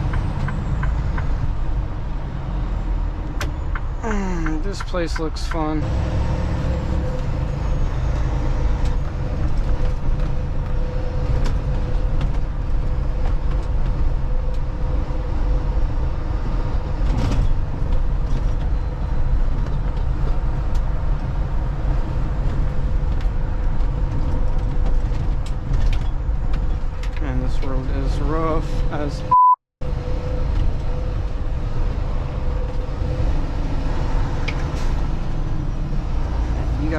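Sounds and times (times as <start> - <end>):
diesel engine rumble: 0.0 - 36.9
road noise hum: 0.0 - 36.9.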